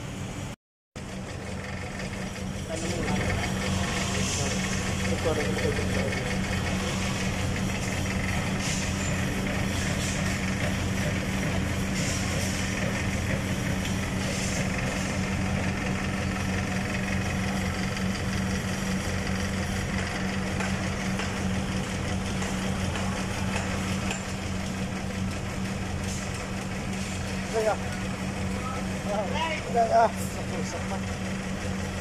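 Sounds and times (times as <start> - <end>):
diesel truck engine idling: 0.1 - 32.0.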